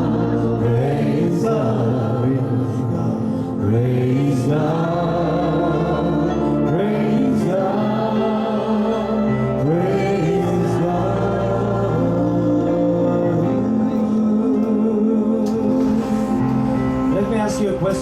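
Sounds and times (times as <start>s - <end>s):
musical accompaniment: 0.0s - 18.0s
person singing worship song: 0.0s - 18.0s.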